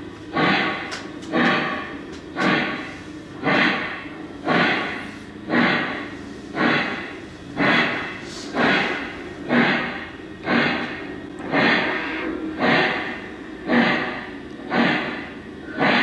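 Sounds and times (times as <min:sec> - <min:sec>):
model steam locomotive chuffs: 0:00.0 - 0:16.0.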